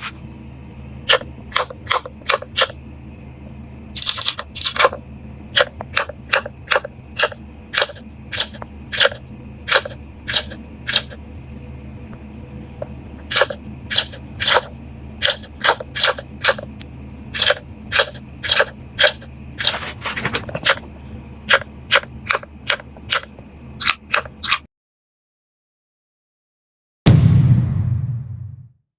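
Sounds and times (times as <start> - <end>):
steady low hum: 0.0 - 24.7.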